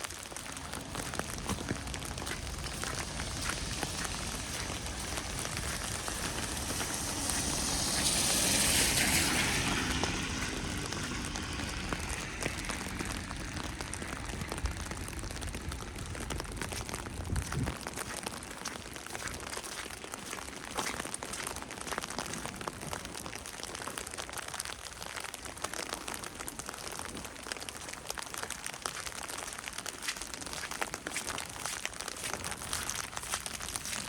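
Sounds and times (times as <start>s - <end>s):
wet snow falling: 0.0s - 34.0s.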